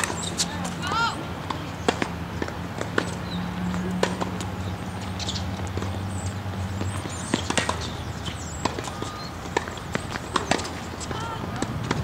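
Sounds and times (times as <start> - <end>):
tennis balls struck and bouncing: 0.0 - 12.0.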